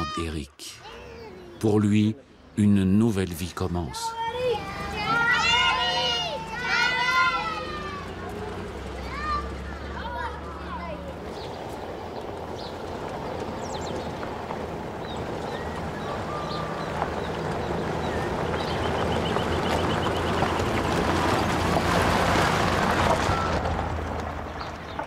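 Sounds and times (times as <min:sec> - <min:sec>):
car engine hum: 0:04.2 - 0:25.0
tyres crunching on gravel: 0:04.6 - 0:25.0.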